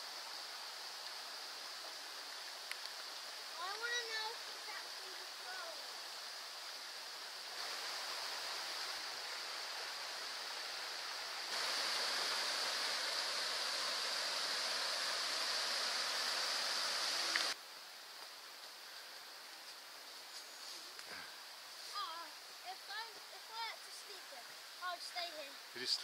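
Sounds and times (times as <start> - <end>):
stream running over stones: 0.0 - 26.0.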